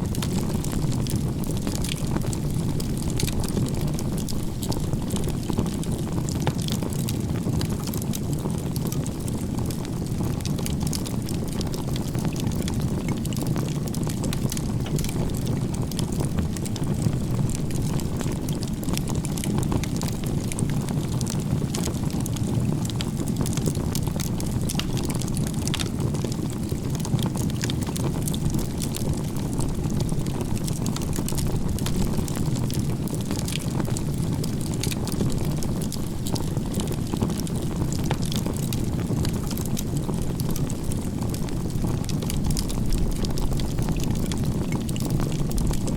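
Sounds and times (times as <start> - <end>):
firewood crackling and popping: 0.0 - 45.9
flames rushing: 0.1 - 45.9.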